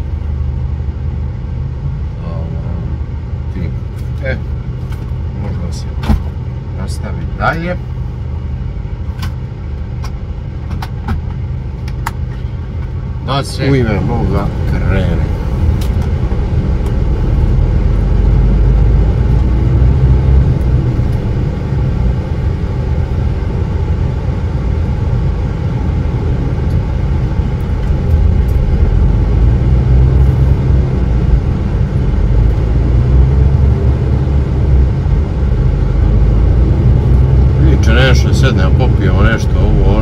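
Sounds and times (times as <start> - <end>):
diesel truck engine rumble: 0.0 - 40.0.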